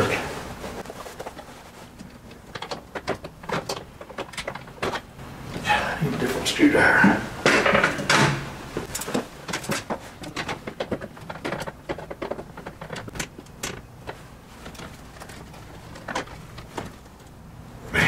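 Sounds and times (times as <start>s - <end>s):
electrical wires clicking and rattling: 0.0s - 5.2s, 7.4s - 17.5s.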